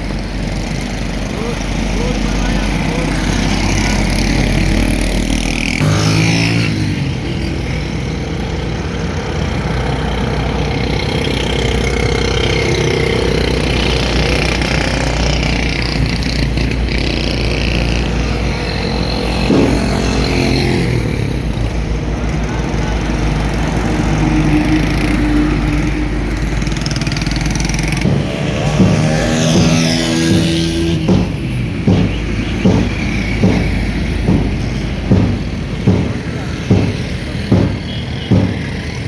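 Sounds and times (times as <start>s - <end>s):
heavy road traffic: 0.0s - 39.0s
passing vehicle engine: 0.0s - 39.0s.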